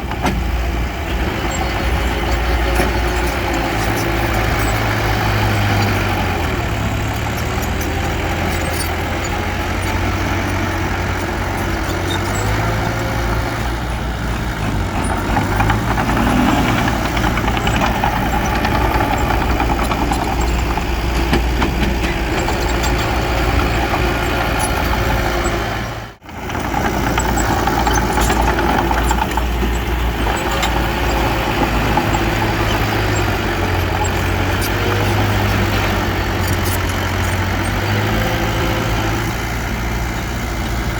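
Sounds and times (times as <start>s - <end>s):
diesel engine running at low revs: 0.0s - 40.9s.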